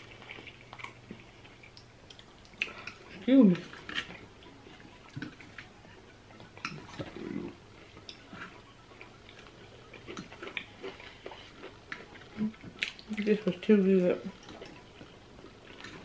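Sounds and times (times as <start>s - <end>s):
chewing and mouth sounds: 0.0s - 16.0s.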